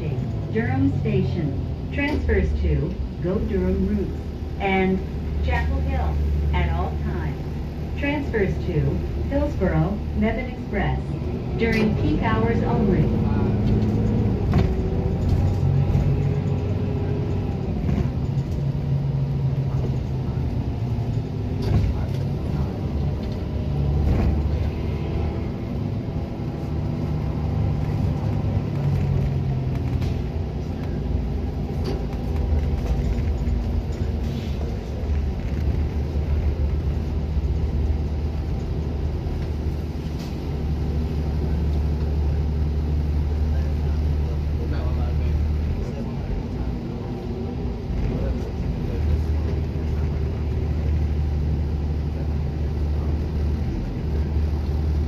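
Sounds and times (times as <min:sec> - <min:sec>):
bus engine rumble: 0:00.0 - 0:55.0
road noise: 0:00.0 - 0:55.0.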